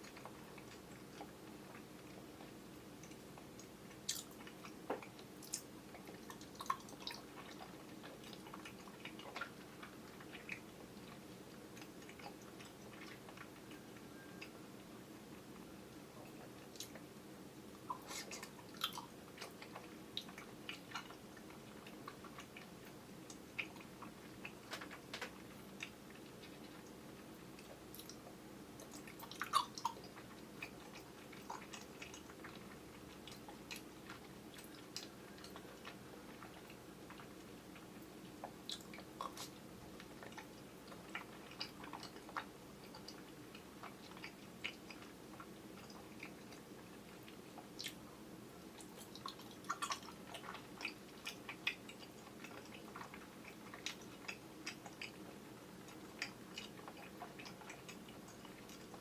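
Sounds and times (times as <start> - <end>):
faint steady hum: 0.0 - 59.0
wet chewing clicks and smacks: 0.0 - 59.0.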